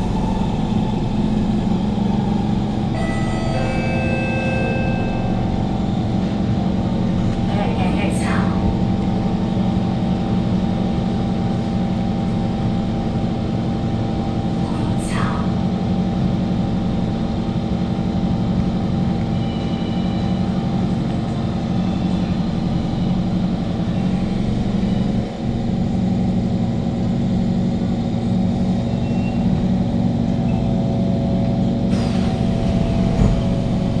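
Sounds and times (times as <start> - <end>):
train rumbling with steady hum: 0.0 - 34.0.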